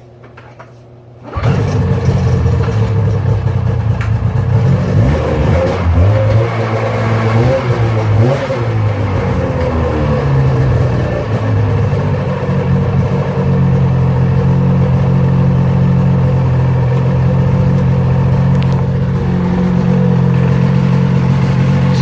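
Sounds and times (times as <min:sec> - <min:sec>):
snowmobile two-stroke engine running: 0:01.3 - 0:22.0.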